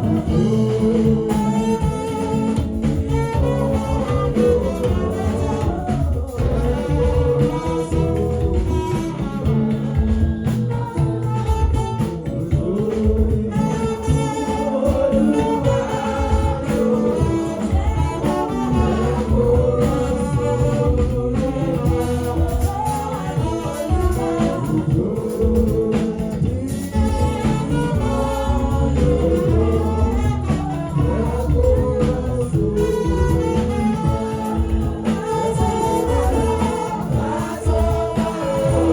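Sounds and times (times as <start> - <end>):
gospel singing: 0.0 - 38.9
live instruments with steady beat: 0.0 - 38.9.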